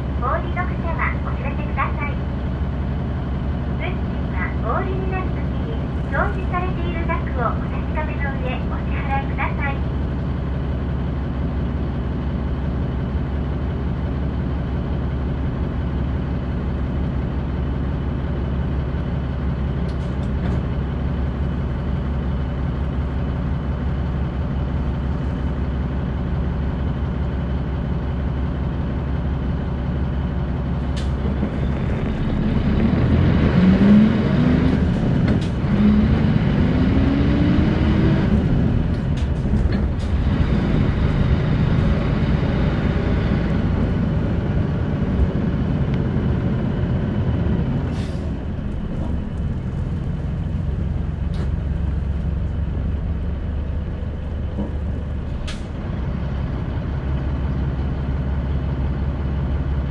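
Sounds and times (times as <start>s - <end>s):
bus diesel engine idling: 0.0s - 59.9s
bus engine accelerating: 0.0s - 59.9s.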